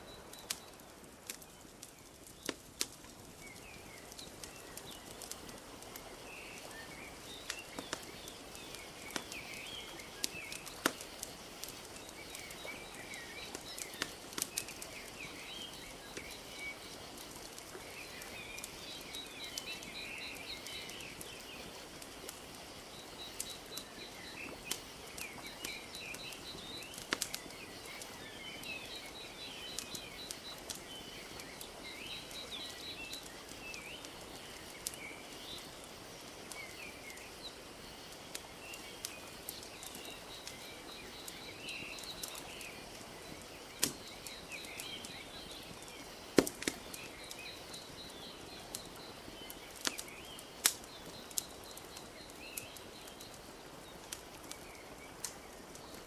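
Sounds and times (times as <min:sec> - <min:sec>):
small birds chirping: 0:00.0 - 0:56.0
wood fire crackling and popping: 0:00.0 - 0:56.0.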